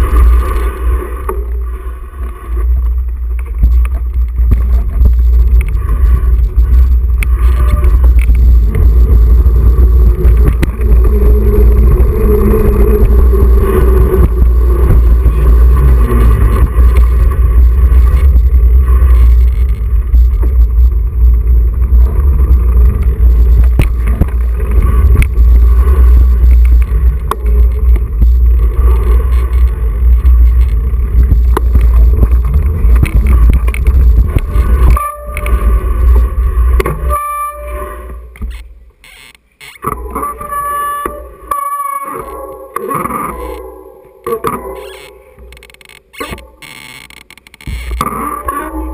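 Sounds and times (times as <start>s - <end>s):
wind and ride noise: 0.0s - 48.9s.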